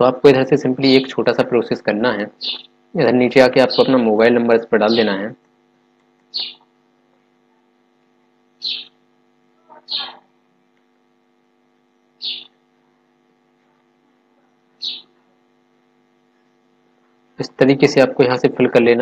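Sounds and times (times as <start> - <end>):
faint mains hum: 0.0 - 19.0.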